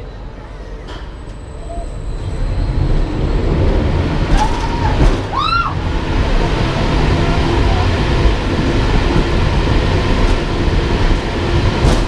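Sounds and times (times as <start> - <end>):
low train-like rumbling: 0.0 - 12.0.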